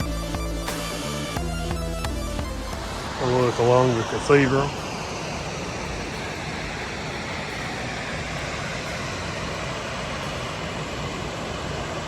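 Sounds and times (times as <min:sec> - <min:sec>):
waterfall rushing: 0:02.3 - 0:12.0.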